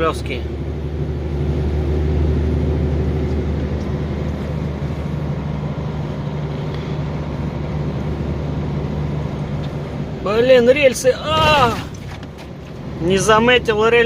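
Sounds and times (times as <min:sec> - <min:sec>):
road noise: 0:00.0 - 0:14.0
truck diesel engine drone: 0:00.0 - 0:14.0.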